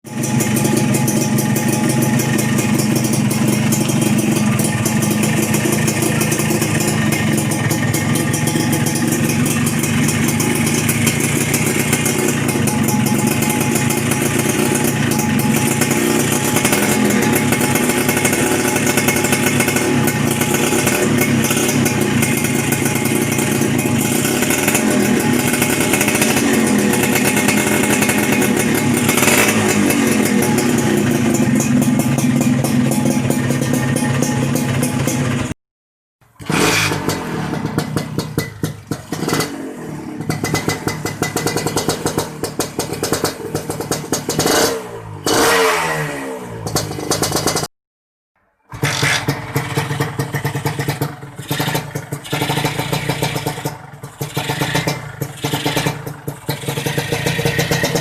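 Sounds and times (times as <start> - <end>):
two-stroke engine running: 0.1 - 35.6, 36.3 - 45.9, 46.5 - 47.7, 48.7 - 58.0.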